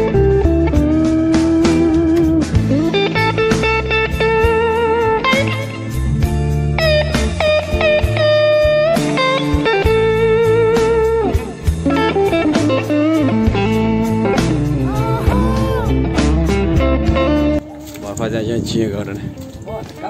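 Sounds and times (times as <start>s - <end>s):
blues-rock music with electric guitar: 0.0s - 17.8s.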